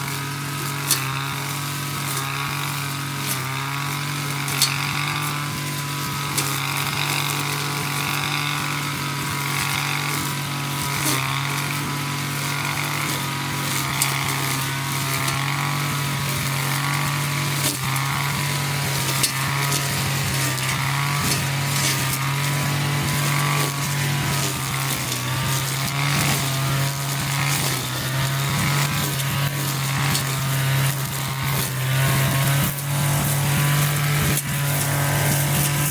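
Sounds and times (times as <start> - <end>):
brush cutter engine running: 0.0 - 35.9.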